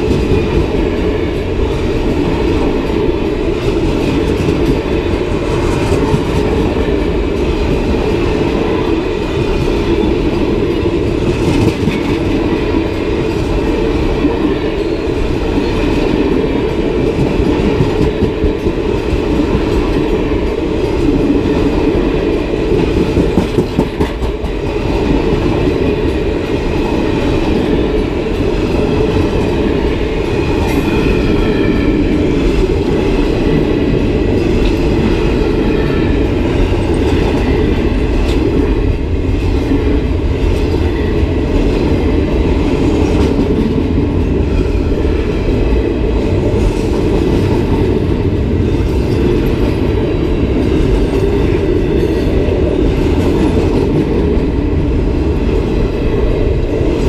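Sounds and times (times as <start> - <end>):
railroad car wheels rumbling: 0.0 - 57.0.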